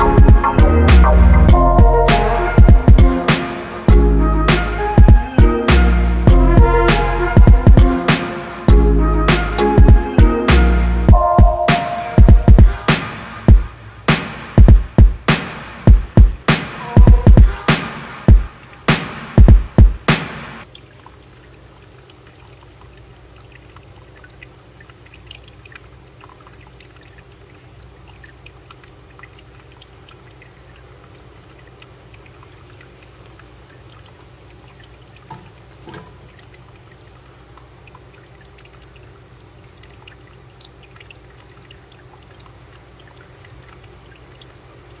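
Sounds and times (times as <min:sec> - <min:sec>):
water trickling and dripping: 0:00.0 - 0:45.0.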